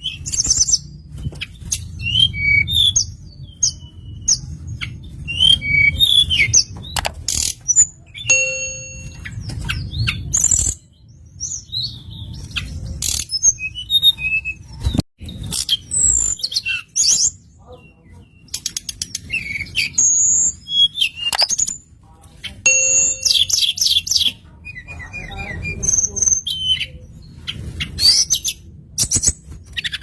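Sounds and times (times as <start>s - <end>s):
songbird chirping and trilling: 0.0s - 30.0s.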